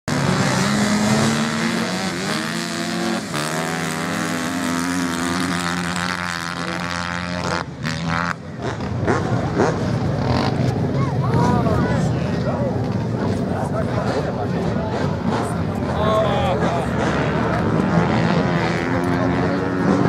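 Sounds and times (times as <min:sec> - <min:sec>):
racing motorcycle engine revving: 0:00.1 - 0:12.6, 0:13.2 - 0:20.0.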